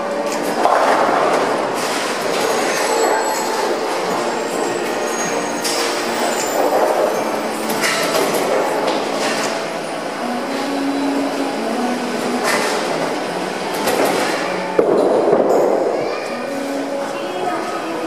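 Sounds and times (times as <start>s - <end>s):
pinsetter machinery running: 0.0s - 15.4s
rumble of rolling bowling balls: 0.0s - 16.9s.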